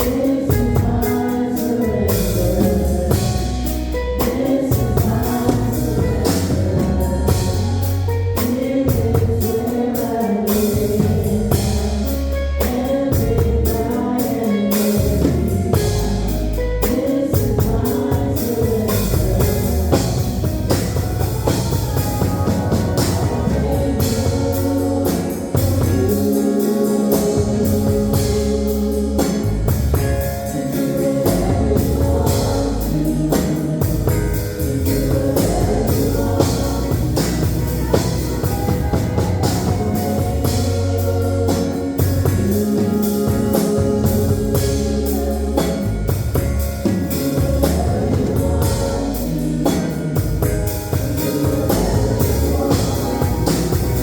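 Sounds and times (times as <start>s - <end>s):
band with drums and guitar: 0.0s - 54.0s.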